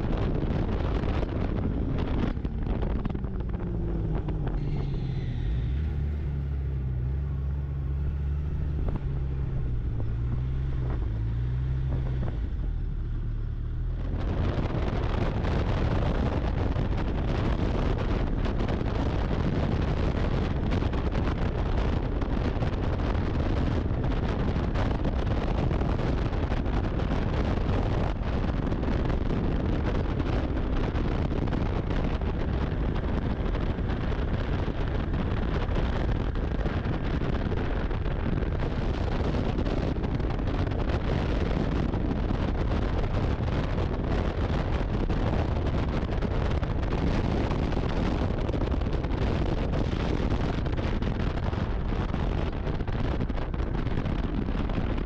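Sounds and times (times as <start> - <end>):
snowmobile running: 0.0 - 55.0
wind on microphone: 0.0 - 55.0.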